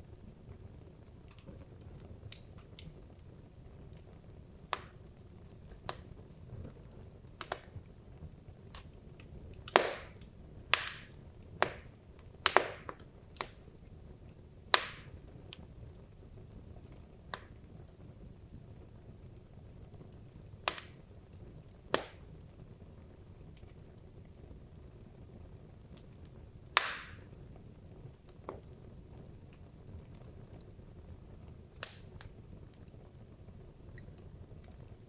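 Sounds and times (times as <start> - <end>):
low rumble of fire: 0.0 - 35.0
wood fire crackling and popping: 0.0 - 35.0.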